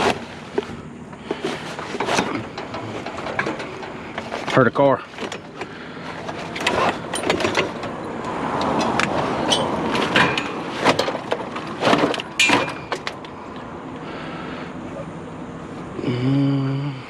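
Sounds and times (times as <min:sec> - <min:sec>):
sharp knocks and rattles: 0:00.0 - 0:13.7
car passing: 0:00.0 - 0:16.2.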